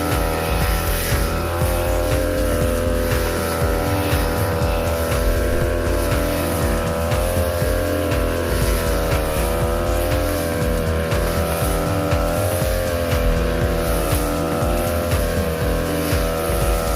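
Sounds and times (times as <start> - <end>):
petrol lawn mower cutting grass: 0.0 - 16.9.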